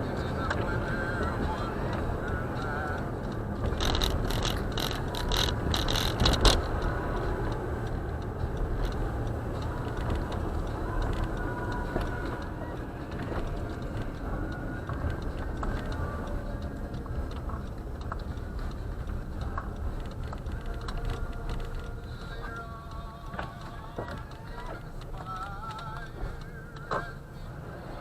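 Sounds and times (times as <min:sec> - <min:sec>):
car driving low rumble: 0:00.0 - 0:28.0
sharp ticks: 0:00.1 - 0:27.0.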